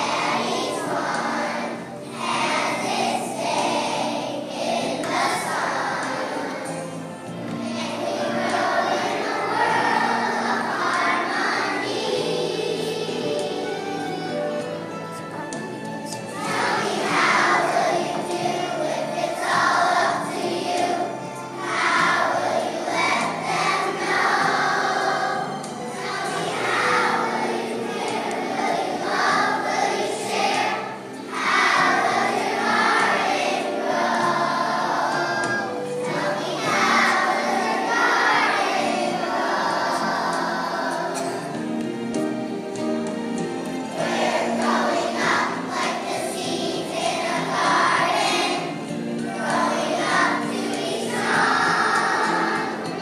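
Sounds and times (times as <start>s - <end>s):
children's choir singing: 0.0s - 53.0s
instrumental accompaniment: 0.0s - 53.0s.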